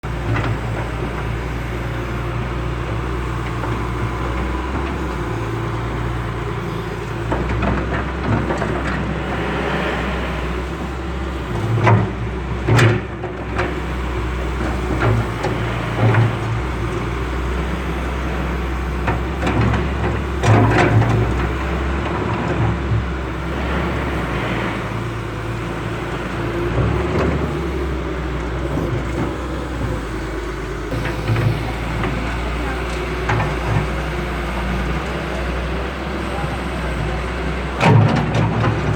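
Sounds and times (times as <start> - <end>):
low engine hum: 0.0 - 38.9.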